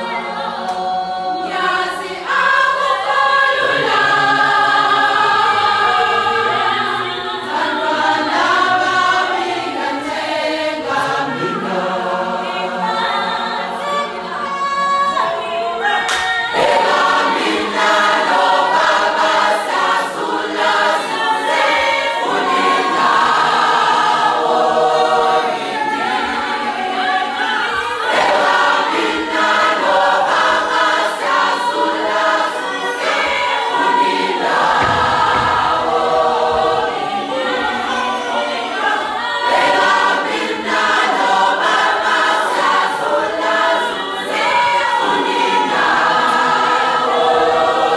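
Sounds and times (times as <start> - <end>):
women's choir singing a cappella: 0.0 - 47.9.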